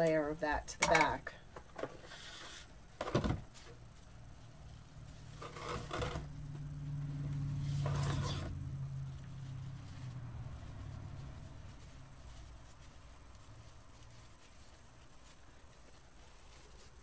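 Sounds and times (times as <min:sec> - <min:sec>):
low steady hum: 0:00.0 - 0:17.0
ribbon rustling and crinkling: 0:01.4 - 0:17.0.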